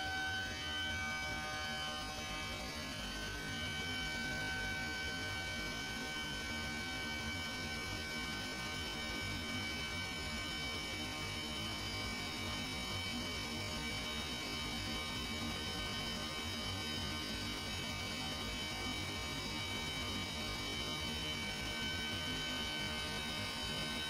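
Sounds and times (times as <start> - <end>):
chiller machinery hum: 0.0 - 24.0.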